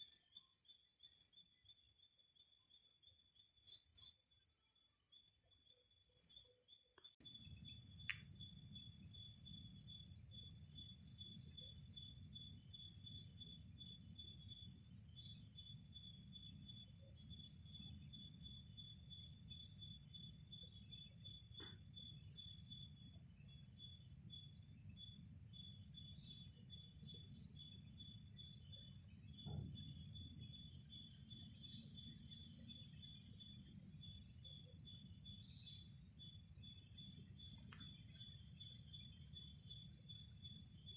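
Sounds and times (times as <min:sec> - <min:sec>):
short insect chirps: 0:00.0 - 0:40.9
fast-pulsing cricket trill: 0:07.2 - 0:40.9
high-pitched cricket buzz: 0:07.2 - 0:40.9.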